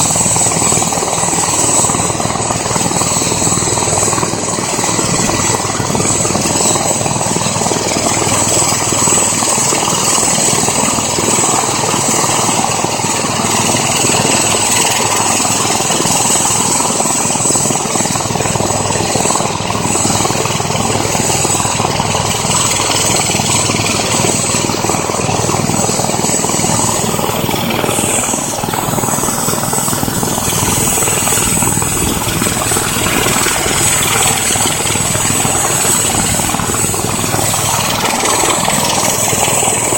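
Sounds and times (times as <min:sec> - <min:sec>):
helicopter rotor and exhaust noise: 0:00.0 - 0:39.9
helicopter turbine whine: 0:00.0 - 0:39.9.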